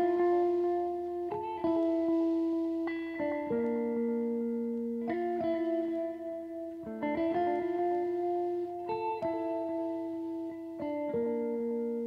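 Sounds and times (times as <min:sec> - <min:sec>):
guitar playing held chords: 0:00.0 - 0:12.0.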